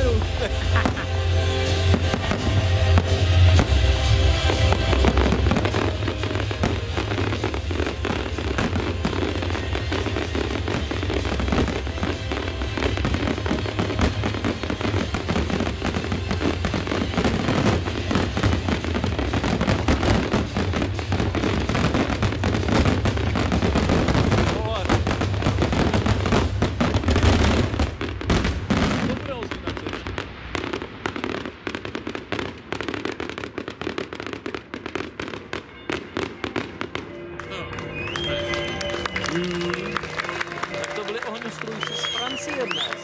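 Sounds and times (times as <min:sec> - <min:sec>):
music: 0:00.0 - 0:28.0, 0:35.3 - 0:43.0
fireworks bursting and crackling: 0:00.0 - 0:43.0.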